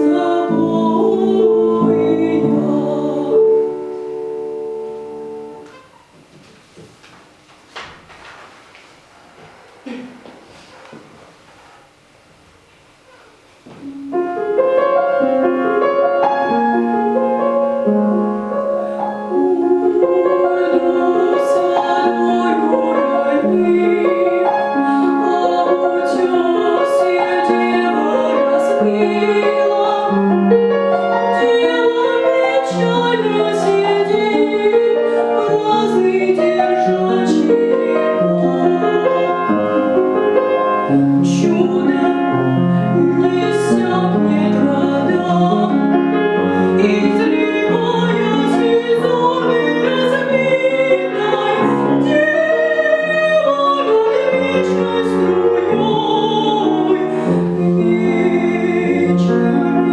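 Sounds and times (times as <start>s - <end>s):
woman singing classically: 0.0s - 5.6s, 16.0s - 59.9s
piano accompaniment: 0.0s - 59.9s.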